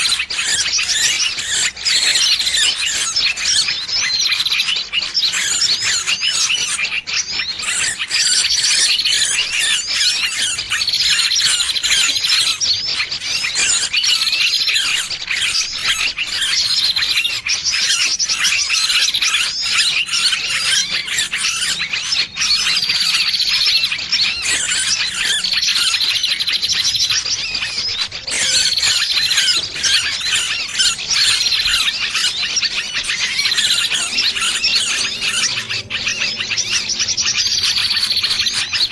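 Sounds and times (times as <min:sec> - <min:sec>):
small bird distress calls: 0:00.0 - 0:38.9.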